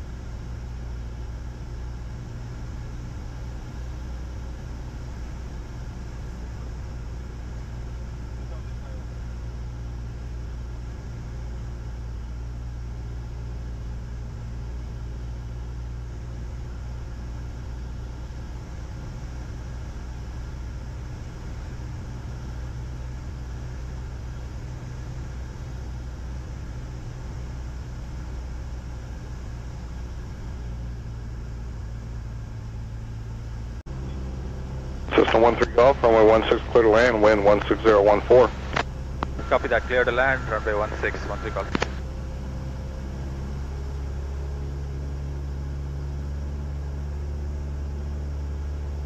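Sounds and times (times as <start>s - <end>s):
aircraft engine and propeller droning: 0.0s - 49.0s.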